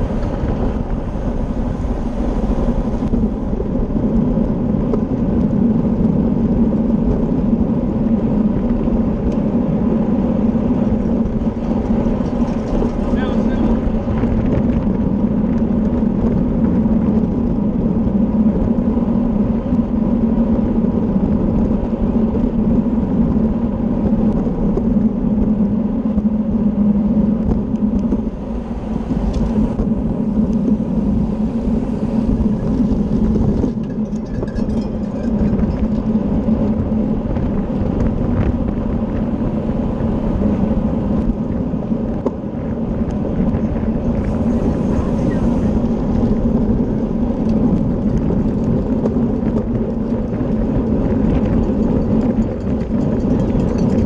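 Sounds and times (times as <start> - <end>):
wind rushing on microphone: 0.0 - 54.0.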